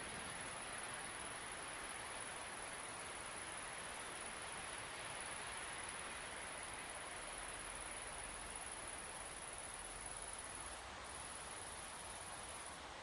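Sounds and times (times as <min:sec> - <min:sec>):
high-pitched insect chorus: 0:00.0 - 0:12.9
soft wind: 0:00.0 - 0:13.0.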